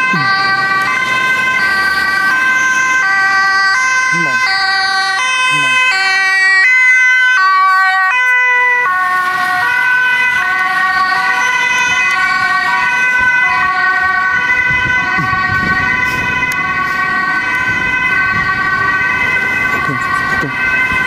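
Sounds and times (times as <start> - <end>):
road noise from passing vehicle: 0.0 - 21.0
two-tone ambulance siren: 0.0 - 21.0.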